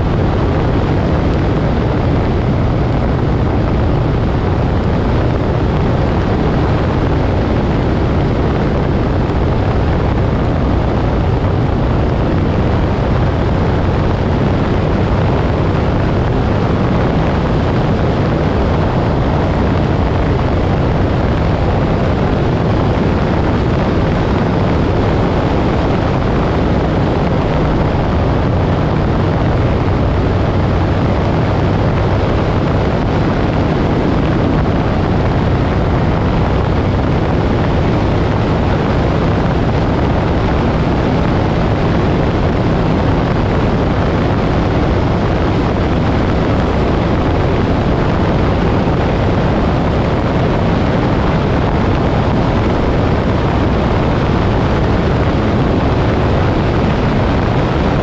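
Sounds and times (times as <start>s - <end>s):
motorcycle engine cruising: 0.0s - 58.0s
wind rushing over microphone: 0.0s - 58.0s.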